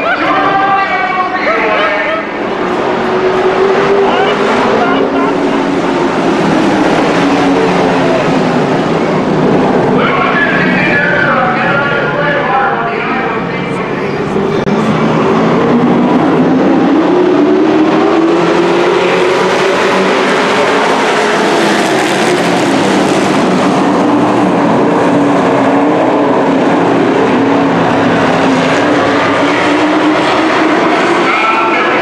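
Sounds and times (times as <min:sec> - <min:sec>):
racing truck engines: 0:00.0 - 0:32.0.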